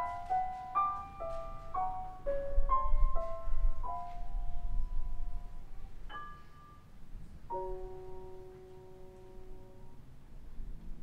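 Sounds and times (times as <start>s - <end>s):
grand piano playing slowly: 0.0s - 11.0s.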